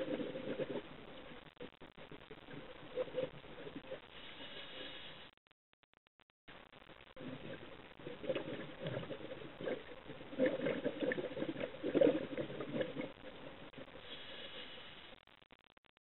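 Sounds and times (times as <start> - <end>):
underwater bubbling and gurgling: 0.0 - 5.2, 7.2 - 14.9
faint steady hum: 0.0 - 5.4, 6.5 - 15.4.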